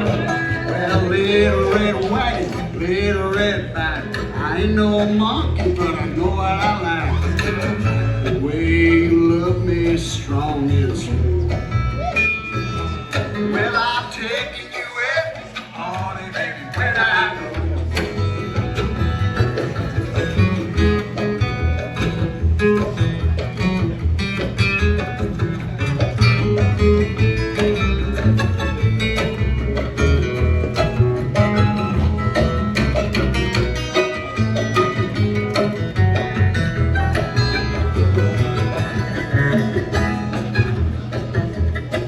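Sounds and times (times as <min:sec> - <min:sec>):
bowed string instrument: 0:00.0 - 0:42.0
plucked guitar lines: 0:00.0 - 0:42.0
upright bass: 0:00.0 - 0:42.0.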